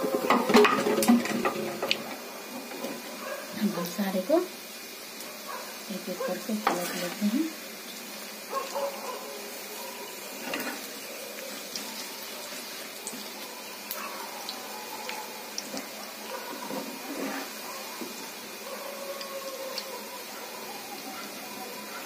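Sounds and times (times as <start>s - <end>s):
fritters sizzling in hot oil: 0.0s - 22.0s.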